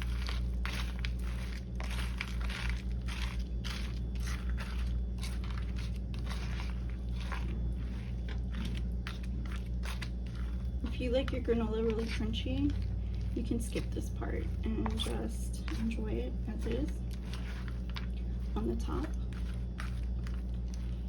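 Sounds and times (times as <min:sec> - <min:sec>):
low electrical hum: 0:00.0 - 0:21.0
spoon stirring crunchy granola: 0:00.0 - 0:21.0.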